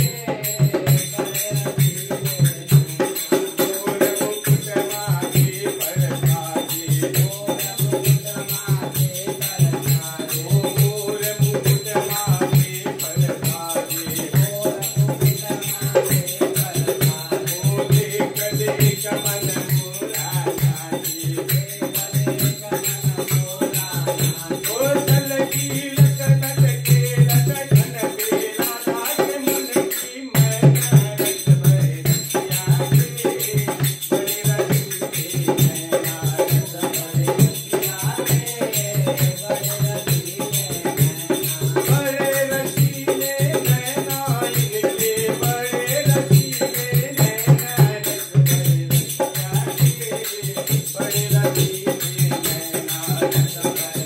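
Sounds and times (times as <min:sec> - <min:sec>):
jingling hand percussion: 0:00.0 - 0:54.0
person singing a devotional hymn: 0:00.0 - 0:54.0.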